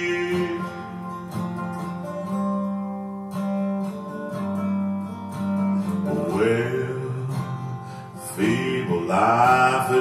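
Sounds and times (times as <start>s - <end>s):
acoustic guitar strummed chords: 0.0s - 10.0s.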